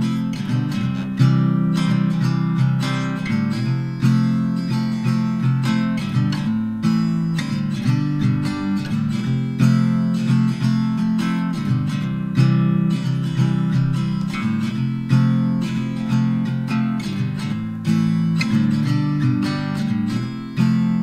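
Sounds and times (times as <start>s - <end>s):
strummed acoustic guitar: 0.0s - 21.0s.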